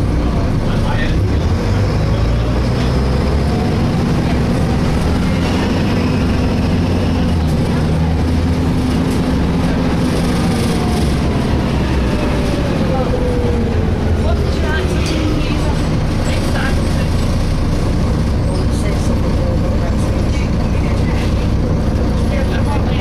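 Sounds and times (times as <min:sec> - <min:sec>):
bus diesel engine droning: 0:00.0 - 0:23.0.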